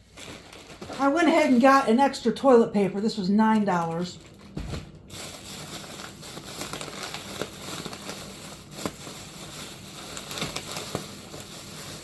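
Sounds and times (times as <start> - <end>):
plastic bags crinkling: 0.0 - 2.0, 3.5 - 12.0.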